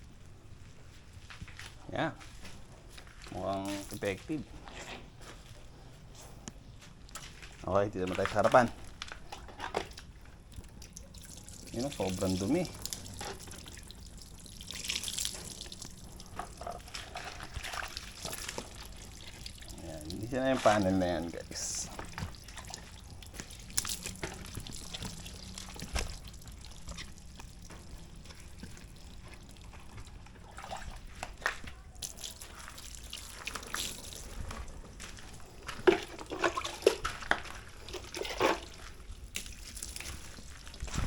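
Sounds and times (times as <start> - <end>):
water dripping and splashing: 7.0 - 41.0.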